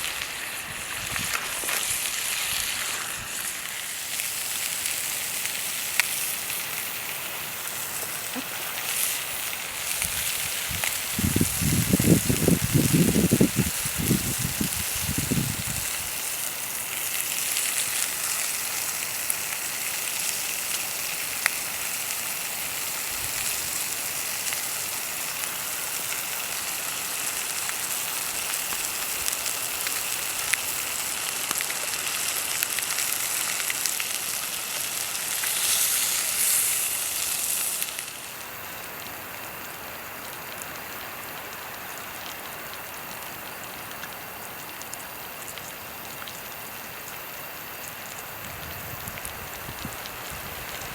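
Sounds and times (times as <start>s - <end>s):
food sizzling in a skillet: 0.0s - 50.9s
small crackles: 0.0s - 50.9s.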